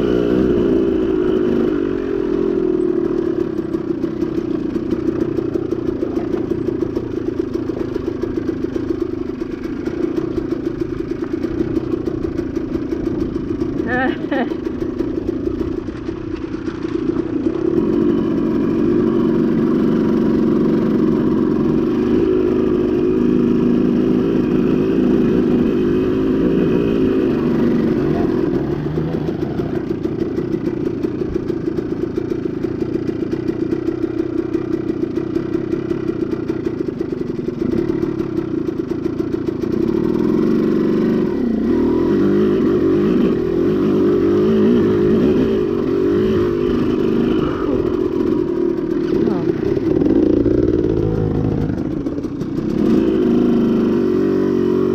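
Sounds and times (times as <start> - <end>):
dirt bike engine revving: 0.0 - 15.8, 16.8 - 31.5, 39.6 - 54.9
bike rattling: 0.4 - 54.5.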